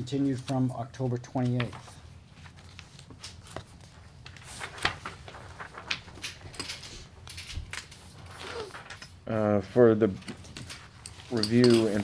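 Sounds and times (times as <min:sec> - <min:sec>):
papers shuffling: 0:01.4 - 0:12.0.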